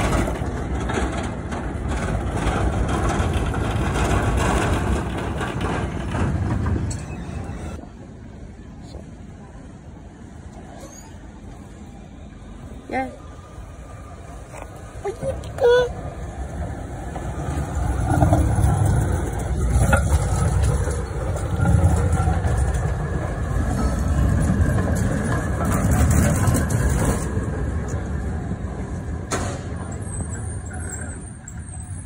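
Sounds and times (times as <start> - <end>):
sharp clacks of tram wheels: 0.0 - 7.9, 13.8 - 32.0
tram wheels rumbling on rails: 0.0 - 32.0.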